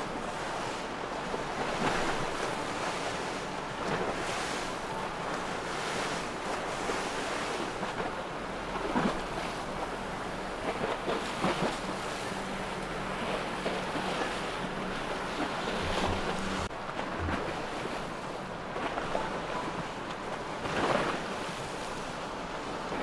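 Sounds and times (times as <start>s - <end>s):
rushing splashing water: 0.0s - 23.0s.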